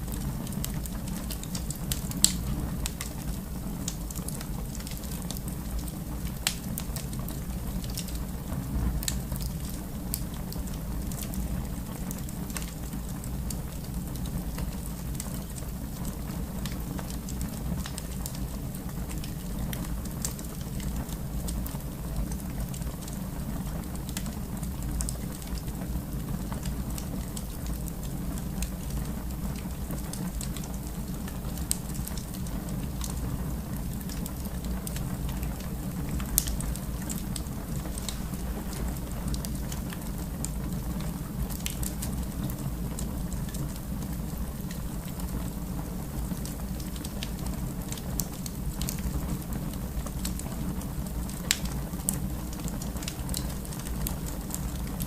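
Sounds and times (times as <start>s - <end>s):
fire crackles and pops: 0.0s - 55.0s
fire rumbling in a fireplace: 0.0s - 55.0s.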